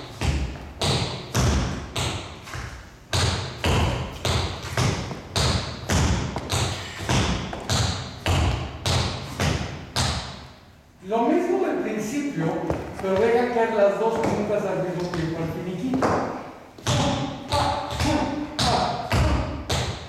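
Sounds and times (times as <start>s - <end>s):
tap shoes on hard floor: 0.2s - 10.3s, 12.6s - 13.5s, 14.1s - 20.0s.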